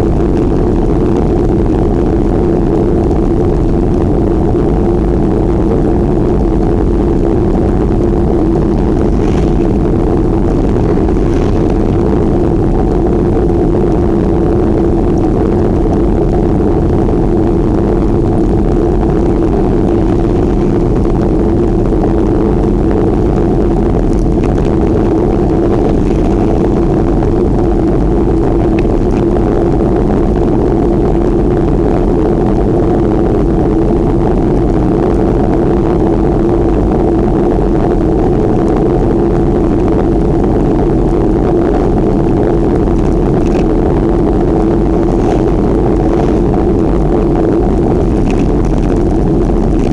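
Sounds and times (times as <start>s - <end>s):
wind rushing on microphone: 0.0s - 49.9s.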